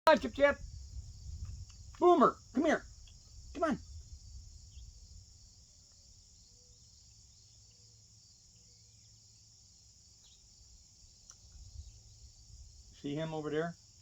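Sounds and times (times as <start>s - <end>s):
insects chirring: 0.1s - 14.0s.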